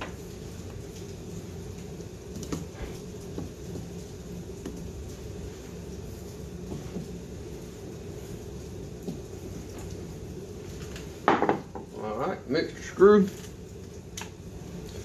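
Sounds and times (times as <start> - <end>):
rain on a roof: 0.0 - 15.0.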